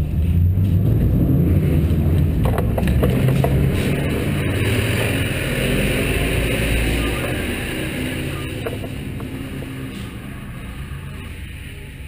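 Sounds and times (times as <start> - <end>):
armoured vehicle engine rumble: 0.0 - 12.0.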